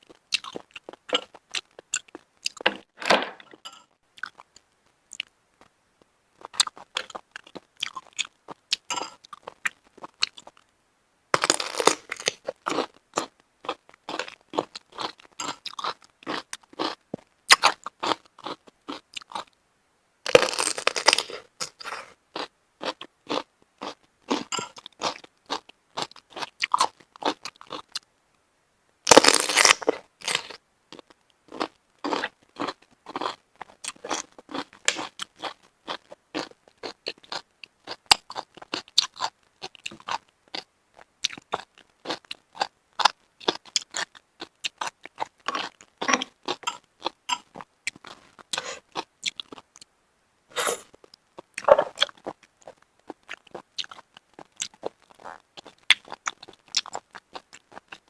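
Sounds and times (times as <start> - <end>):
chewing crunchy shellfish: 0.0 - 5.4, 6.4 - 10.7, 11.4 - 19.6, 20.3 - 28.1, 29.1 - 49.9, 50.5 - 58.0.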